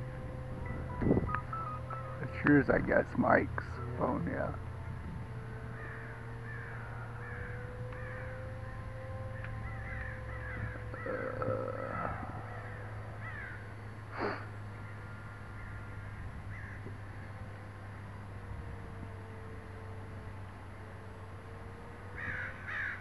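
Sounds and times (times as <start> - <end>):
birds calling: 0.0 - 23.0
model plane motor drone: 0.0 - 23.0.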